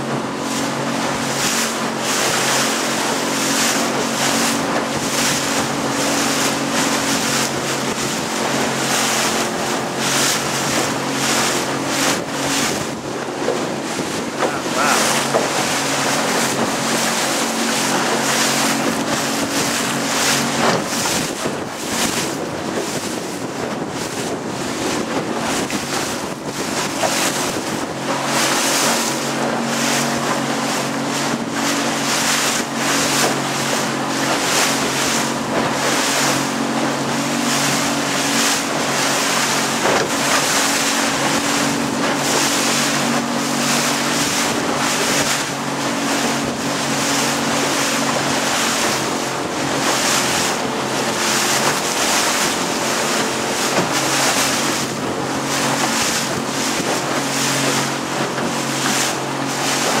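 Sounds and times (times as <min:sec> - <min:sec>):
rush of wind and water: 0:00.0 - 1:00.0
small boat motor running: 0:00.0 - 1:00.0.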